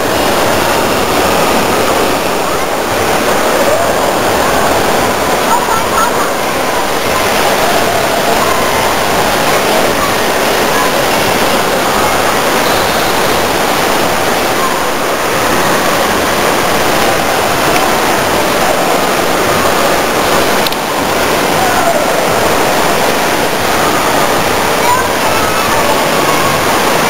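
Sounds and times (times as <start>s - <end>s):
faint voices: 0.0s - 27.0s
water spraying into pool: 0.0s - 27.0s.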